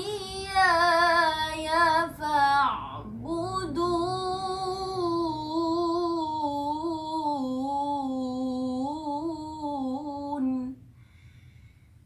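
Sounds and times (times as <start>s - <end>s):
girl reciting in long held note: 0.0s - 10.7s.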